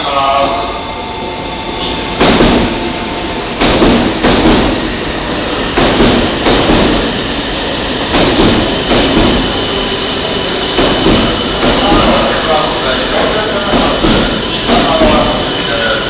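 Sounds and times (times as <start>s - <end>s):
station noise: 0.0s - 16.0s.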